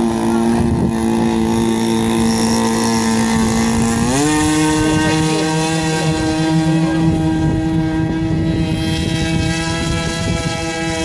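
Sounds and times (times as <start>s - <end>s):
model airboat engine revving: 0.0s - 11.0s.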